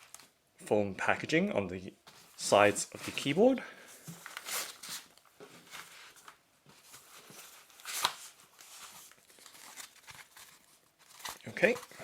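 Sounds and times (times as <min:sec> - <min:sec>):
foam packaging rubbing and rustling: 0:02.2 - 0:12.0.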